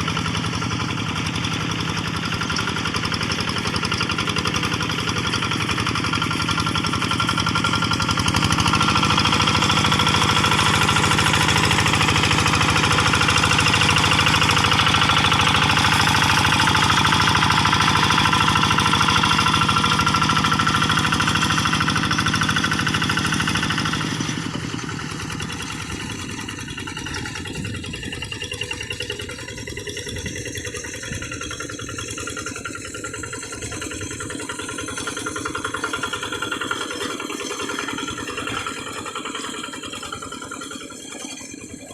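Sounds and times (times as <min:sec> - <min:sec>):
single-cylinder diesel engine running: 0:00.0 - 0:41.9.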